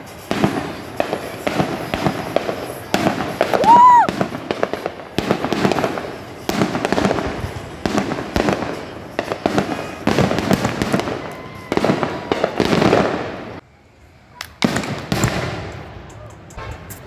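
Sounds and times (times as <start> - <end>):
fireworks bangs: 0.0 - 13.6, 14.5 - 17.0.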